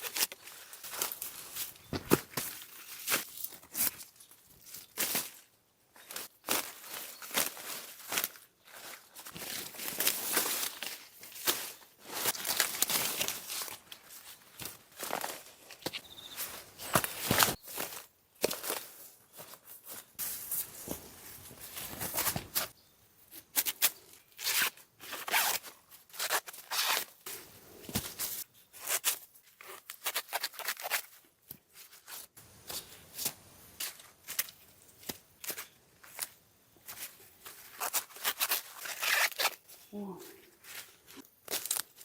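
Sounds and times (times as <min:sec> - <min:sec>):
rustling of garden plants: 0:00.0 - 0:42.0.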